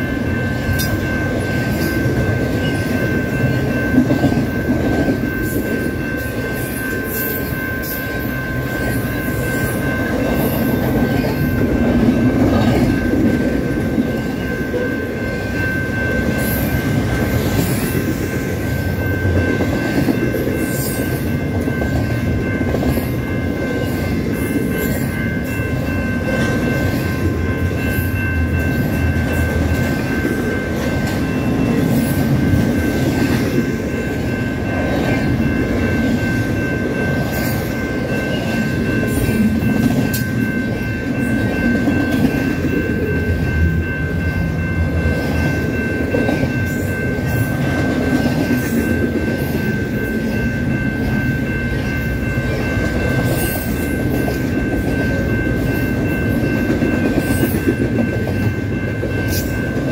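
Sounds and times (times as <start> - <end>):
crossing bell ringing: 0.0 - 59.9
train wheels rumbling and clacking: 0.0 - 59.9.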